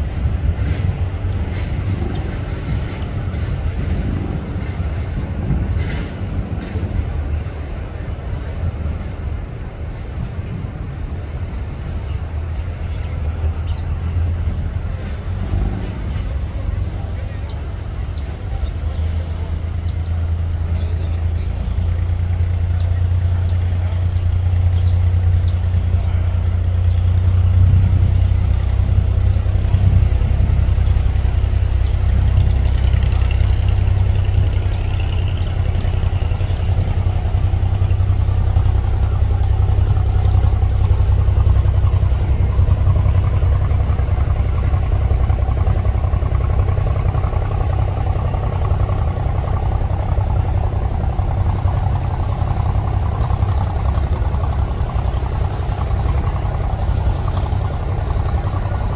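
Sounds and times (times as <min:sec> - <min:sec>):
boat diesel engines droning: 0:00.0 - 0:58.9.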